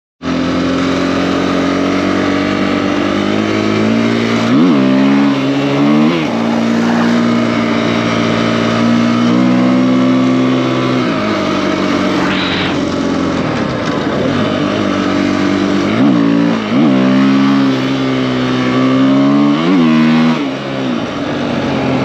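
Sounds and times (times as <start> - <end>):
motorbike engine running and revving: 0.2 - 22.0.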